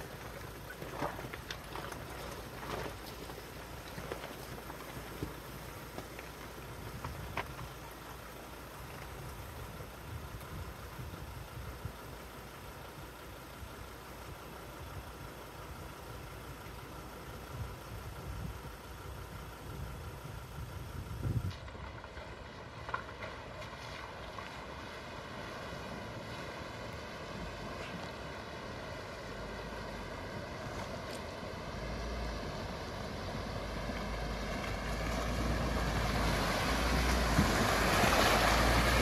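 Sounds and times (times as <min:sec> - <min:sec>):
vehicle engine and tyre rumble: 0:00.0 - 0:39.0.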